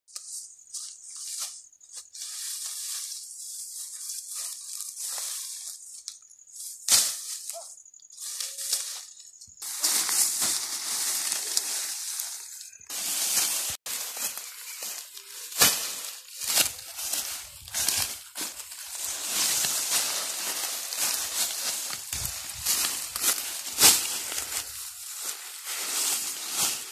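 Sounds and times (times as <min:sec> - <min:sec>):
dry leaves rustling and crackling: 0:00.2 - 0:26.9.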